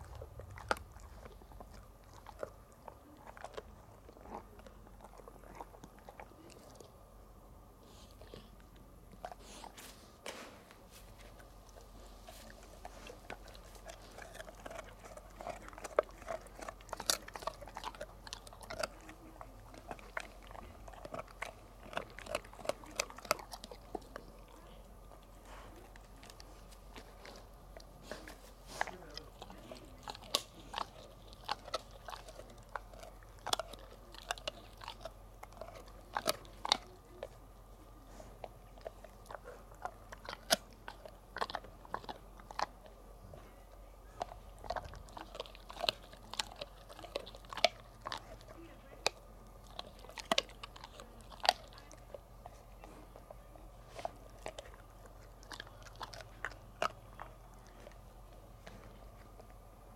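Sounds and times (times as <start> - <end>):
dog chewing with crunches: 0.0 - 59.9.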